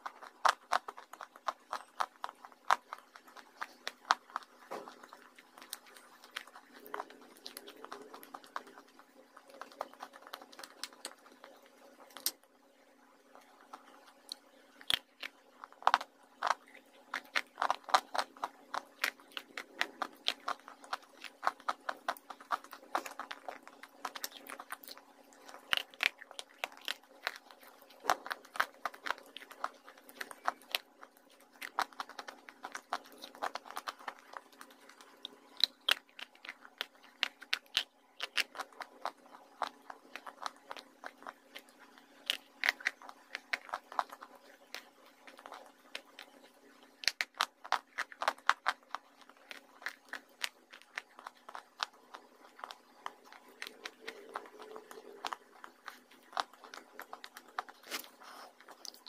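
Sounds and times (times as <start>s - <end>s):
crunching and chewing clay: 0.0s - 59.0s
faint steady hum: 0.0s - 59.0s.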